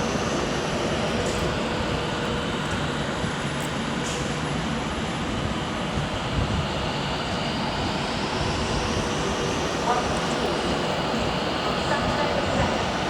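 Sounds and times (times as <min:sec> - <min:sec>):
electric trains humming: 0:00.0 - 0:13.0.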